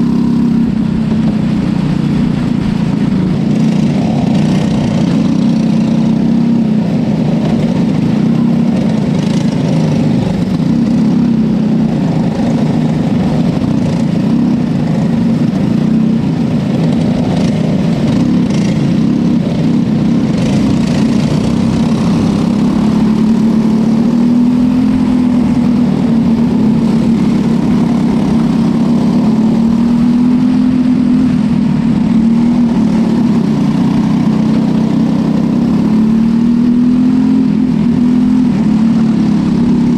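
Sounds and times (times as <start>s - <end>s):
racing car engines at low revs: 0.0s - 39.9s.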